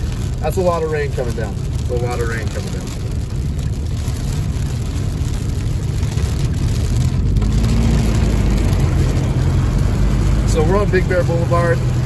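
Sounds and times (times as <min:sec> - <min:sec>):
car tyre and road noise: 0:00.0 - 0:12.0
rain hitting car: 0:00.0 - 0:12.0.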